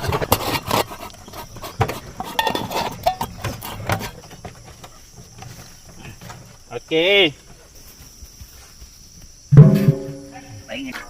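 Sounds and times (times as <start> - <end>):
faint crickets chirping: 0.0 - 11.0.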